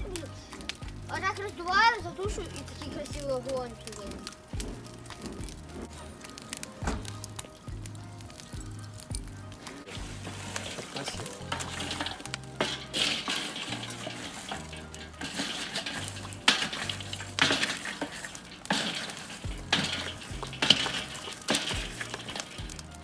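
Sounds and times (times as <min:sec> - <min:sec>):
music with deep bass line: 0:00.0 - 0:17.5, 0:19.4 - 0:23.0
charcoal fire crackling: 0:00.0 - 0:23.0.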